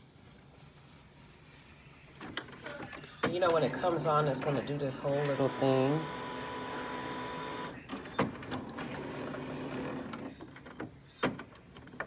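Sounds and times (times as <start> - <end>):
printer motors whirring: 2.1 - 12.0
print head carriage clicks: 2.2 - 11.9.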